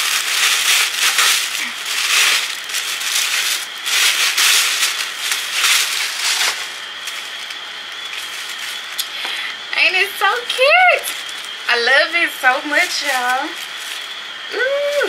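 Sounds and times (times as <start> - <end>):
tissue paper crinkling and rustling: 0.0 - 9.0, 10.2 - 15.0.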